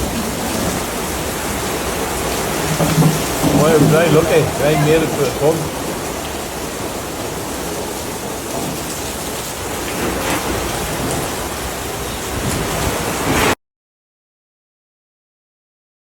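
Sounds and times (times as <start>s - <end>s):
heavy rain pouring: 0.0s - 13.6s.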